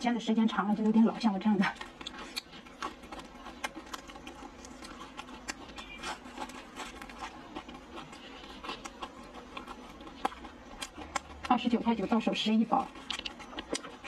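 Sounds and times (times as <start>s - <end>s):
chewing crunchy fried food: 0.0s - 14.0s.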